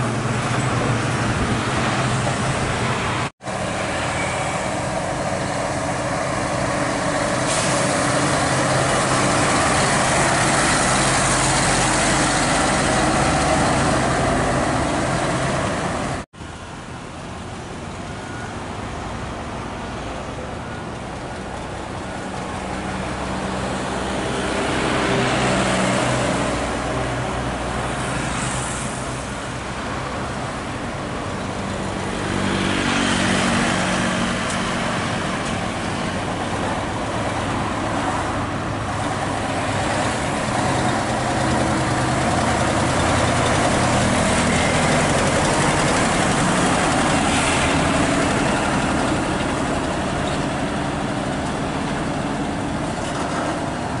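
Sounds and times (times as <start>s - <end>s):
truck diesel engine accelerating: 0.0s - 16.3s, 18.6s - 54.0s
passing road traffic: 0.0s - 54.0s.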